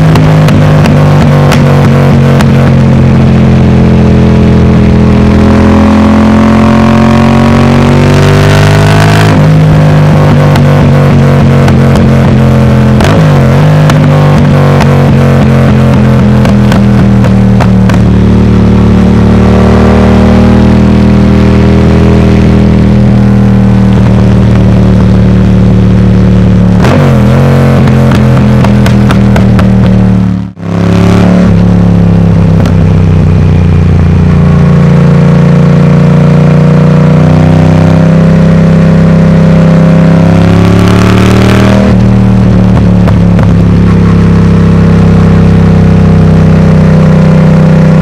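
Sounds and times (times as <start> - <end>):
loud motorcycle engine revving: 0.0 - 48.0.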